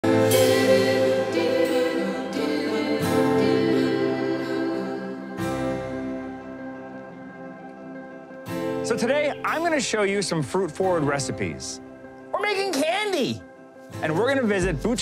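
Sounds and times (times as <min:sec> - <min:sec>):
theme music chords: 0:00.0 - 0:12.4.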